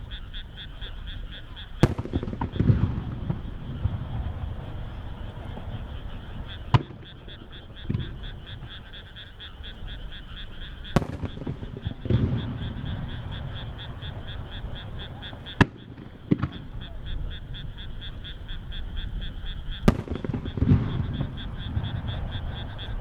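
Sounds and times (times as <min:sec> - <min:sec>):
frogs calling: 0:00.0 - 0:23.0
low rumbles of shell bursts: 0:00.0 - 0:23.0
sharp firework bangs: 0:01.8 - 0:09.2, 0:10.6 - 0:18.0, 0:19.2 - 0:23.0.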